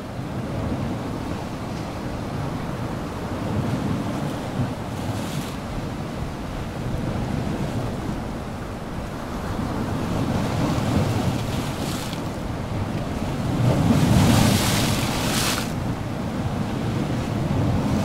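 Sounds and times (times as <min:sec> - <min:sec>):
wind rumbling on microphone: 0:00.0 - 0:18.0
small waves washing through slush: 0:02.4 - 0:18.0.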